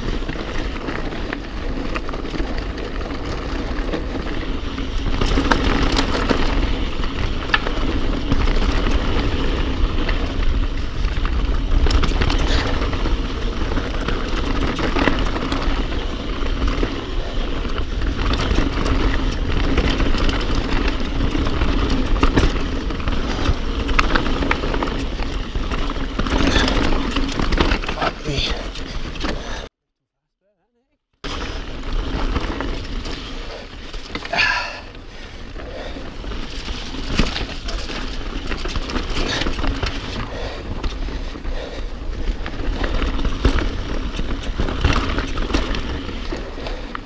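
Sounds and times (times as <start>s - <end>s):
bike rattling over bumps: 0.0s - 29.7s, 31.2s - 47.0s
tyres rolling over dirt and stones: 0.0s - 29.7s, 31.2s - 47.0s.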